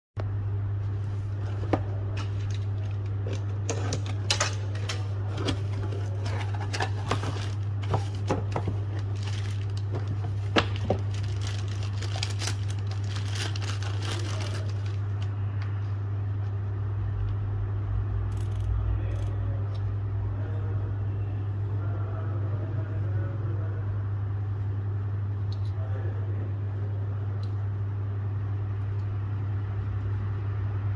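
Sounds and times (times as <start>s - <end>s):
steady low hum: 0.2s - 30.9s.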